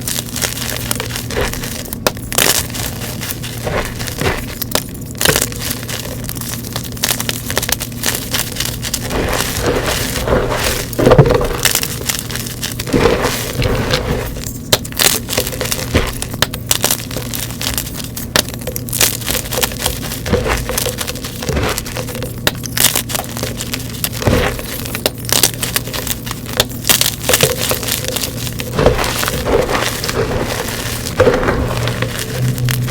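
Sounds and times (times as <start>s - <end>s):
chalk being crushed: 0.0s - 32.9s.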